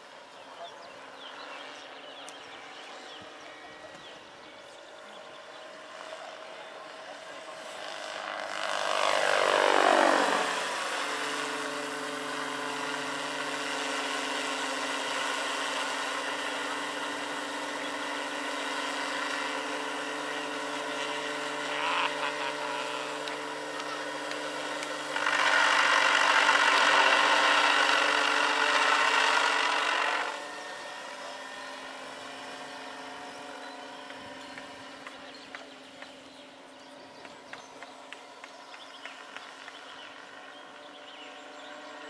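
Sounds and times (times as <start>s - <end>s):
model helicopter motor and rotors whine: 0.0s - 42.0s.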